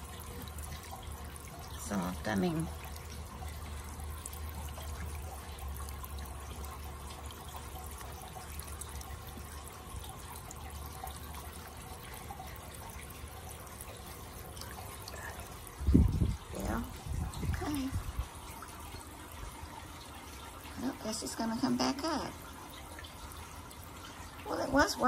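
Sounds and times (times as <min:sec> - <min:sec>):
fountain water splashing: 0:00.0 - 0:25.0
low steady rumble: 0:00.0 - 0:25.0.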